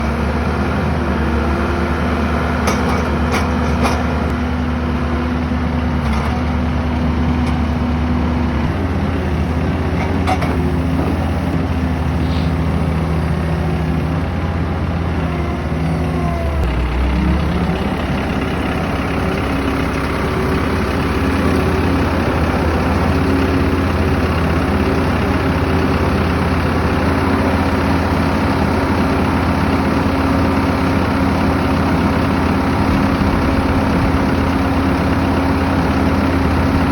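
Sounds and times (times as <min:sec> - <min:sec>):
skid steer loader engine running: 0:00.0 - 0:36.9.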